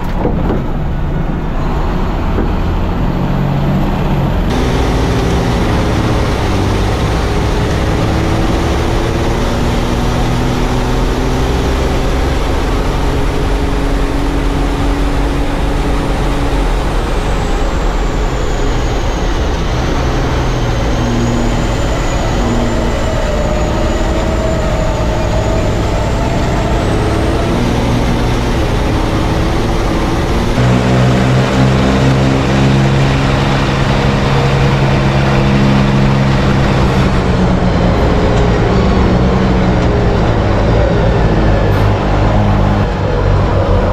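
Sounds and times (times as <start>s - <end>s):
truck diesel engines revving: 0.0s - 43.9s
deep loud engine note: 1.6s - 43.9s.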